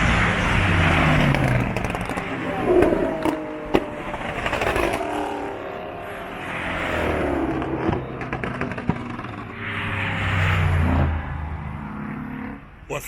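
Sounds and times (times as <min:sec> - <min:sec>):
car engines passing: 0:00.0 - 0:13.0.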